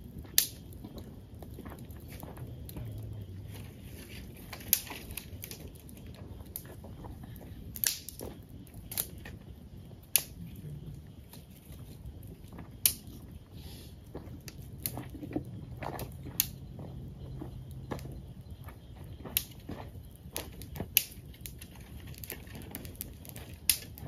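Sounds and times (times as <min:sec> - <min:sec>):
campfire crackling: 0:00.0 - 0:24.0
fire popping and snapping: 0:00.0 - 0:24.0.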